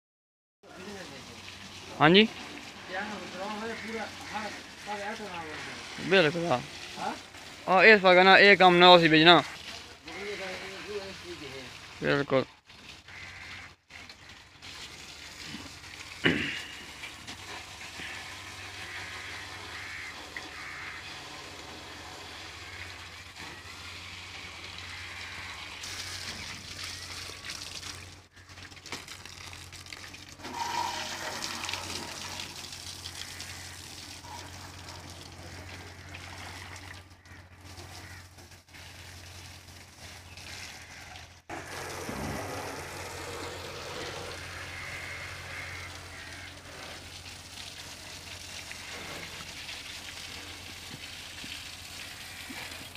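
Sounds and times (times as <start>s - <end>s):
hose water spraying and splashing: 0.6s - 52.9s.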